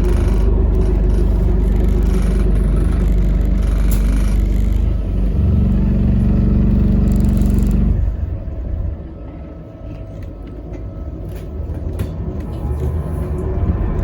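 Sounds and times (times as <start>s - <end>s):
bus drivetrain drone: 0.0s - 14.0s.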